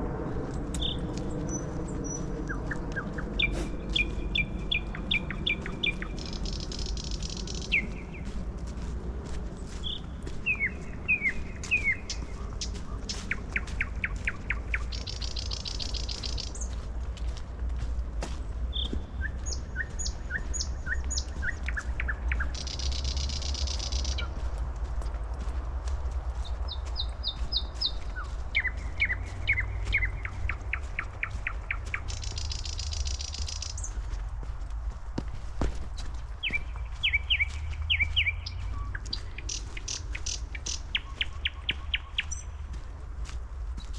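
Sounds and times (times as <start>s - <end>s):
low steady rumble: 0.0s - 43.9s
soft crackles: 0.0s - 43.9s
songbirds calling: 0.0s - 43.9s.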